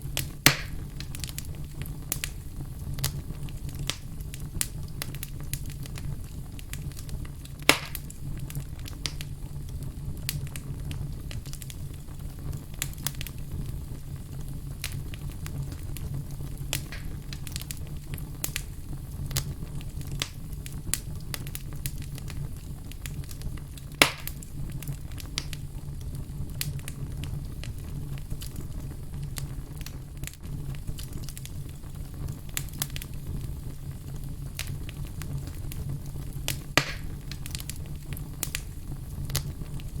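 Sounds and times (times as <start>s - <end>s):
fire crackling: 0.0s - 40.0s
loud pops from fire: 0.0s - 40.0s
low rumble of flames: 0.0s - 40.0s.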